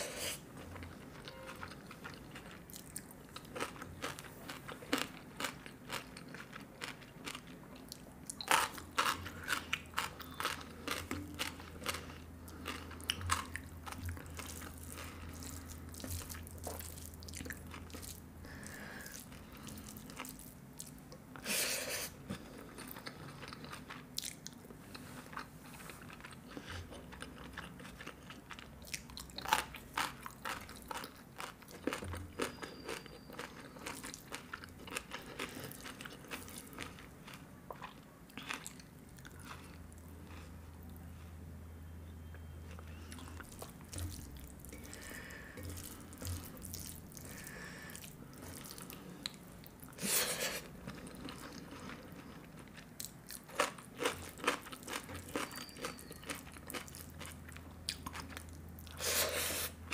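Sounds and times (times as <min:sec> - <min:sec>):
chewing and crunching food: 0:00.0 - 0:21.4, 0:22.2 - 0:41.4, 0:42.2 - 0:59.9.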